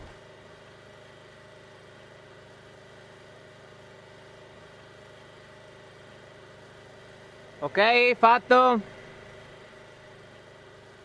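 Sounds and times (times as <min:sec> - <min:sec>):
faint engine hum: 0:00.0 - 0:11.0.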